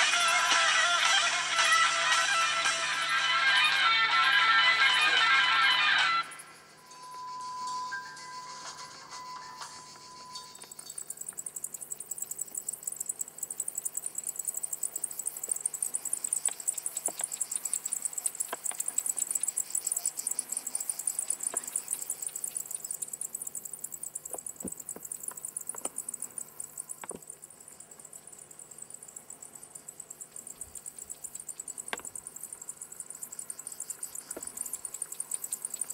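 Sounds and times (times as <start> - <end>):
cicadas buzzing: 0.0 - 35.9.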